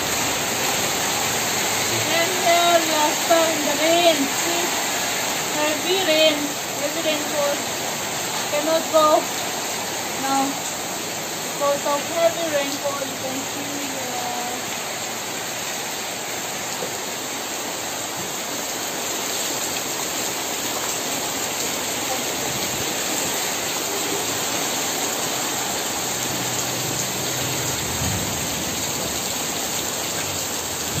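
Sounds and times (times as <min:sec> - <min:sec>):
heavy rain on wet ground: 0:00.0 - 0:31.0.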